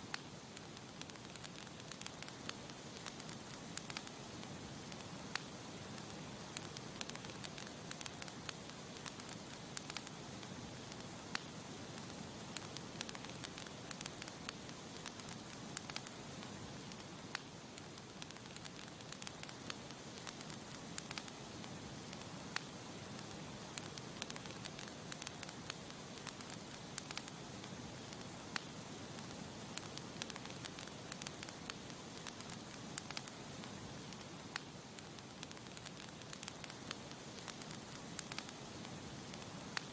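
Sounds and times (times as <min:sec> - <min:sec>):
burning wood crackling and popping: 0:00.0 - 0:39.9
campfire hissing: 0:00.0 - 0:39.9.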